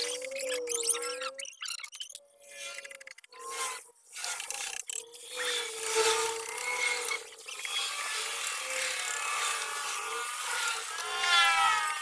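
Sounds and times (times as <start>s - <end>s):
small electric motor whine: 2.2s - 12.0s
wire winding rasp: 2.3s - 12.0s.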